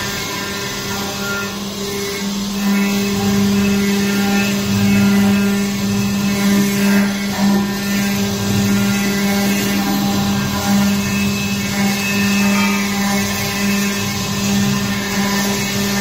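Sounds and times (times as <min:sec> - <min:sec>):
stone carving machine humming: 0:00.0 - 0:16.0.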